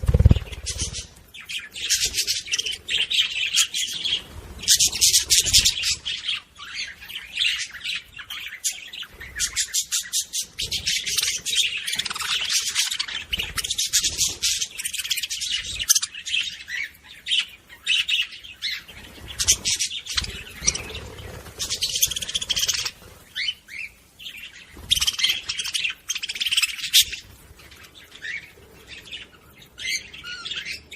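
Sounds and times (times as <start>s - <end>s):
budgerigars chattering and warbling: 0.0s - 30.9s.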